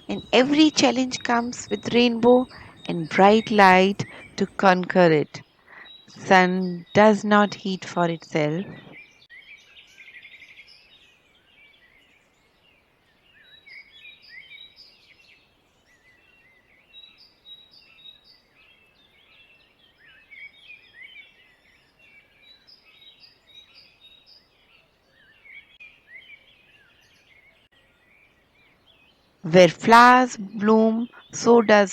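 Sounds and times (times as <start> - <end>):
songbirds chirping and singing: 0.0 - 31.9.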